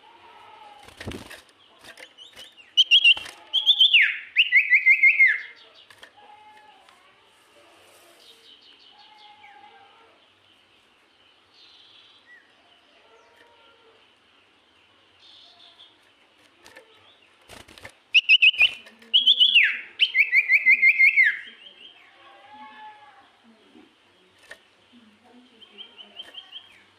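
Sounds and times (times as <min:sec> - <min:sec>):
songbird chirping: 0:00.0 - 0:26.9.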